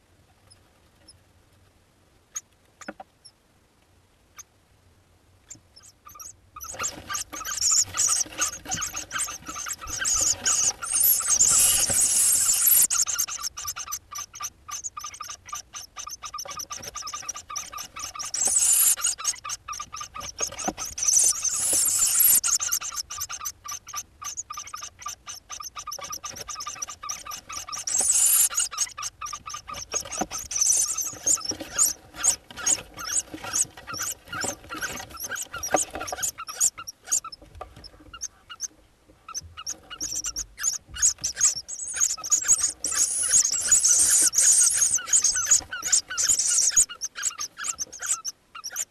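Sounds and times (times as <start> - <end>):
scratching on nest box walls: 5.5 - 48.9
nestlings hissing begging calls: 5.8 - 37.4, 39.3 - 48.9.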